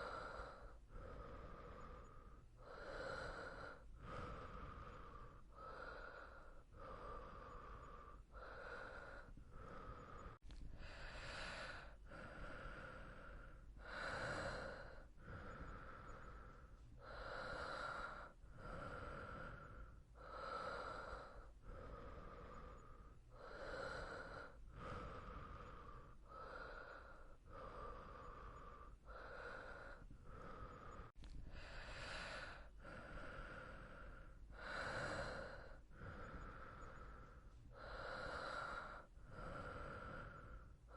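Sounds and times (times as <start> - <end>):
person breathing slowly: 0.0 - 40.9.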